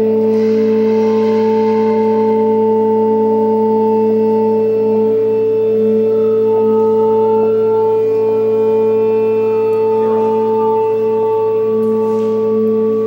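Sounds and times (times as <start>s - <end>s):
high note drifting down: 0.0s - 13.0s
instruments holding a drone: 0.0s - 13.0s.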